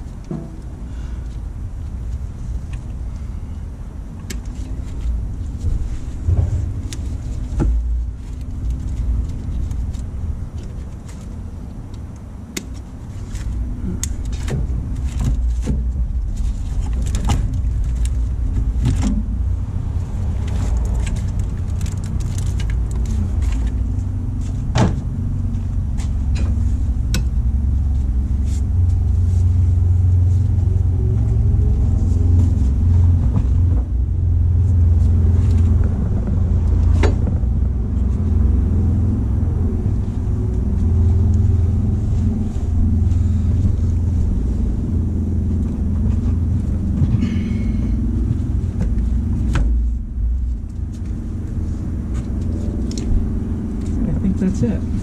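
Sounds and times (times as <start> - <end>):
heavy low rumble: 0.0 - 55.0.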